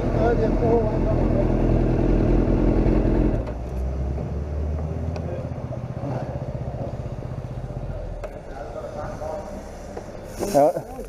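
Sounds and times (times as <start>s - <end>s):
heavy vehicle rumble: 0.0s - 11.0s.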